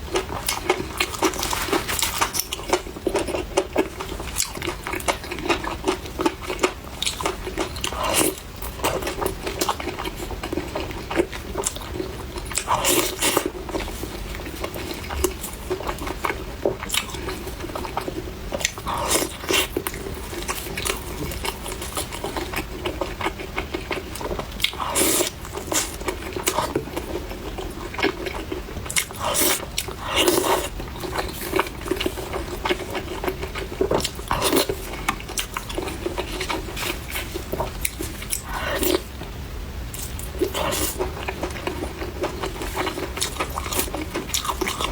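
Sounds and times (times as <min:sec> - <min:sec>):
chewing crispy fried chicken: 0:00.0 - 0:44.9
steady low hum: 0:00.0 - 0:44.9.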